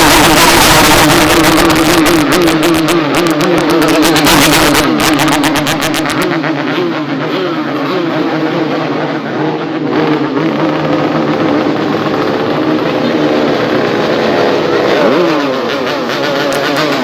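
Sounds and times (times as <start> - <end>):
motorcycle engine revving at idle: 0.0 - 17.0.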